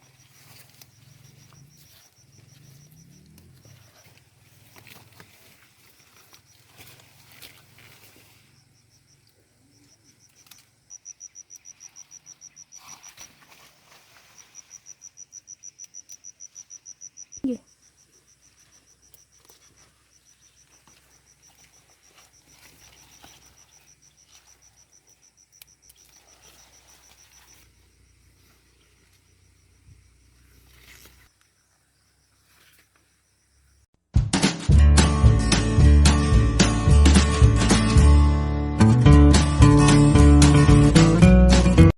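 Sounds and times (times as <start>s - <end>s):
cricket trilling: 0.0s - 33.9s.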